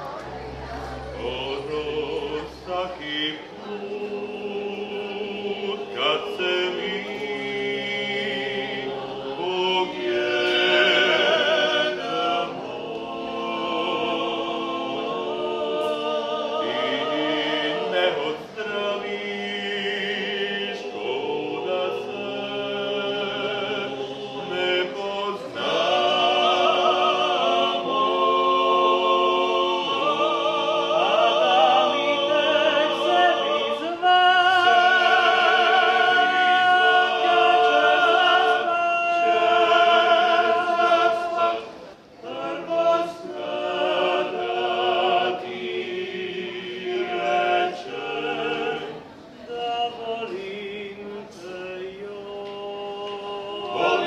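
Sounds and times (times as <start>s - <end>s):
classical singing with vibrato: 0.0s - 54.0s.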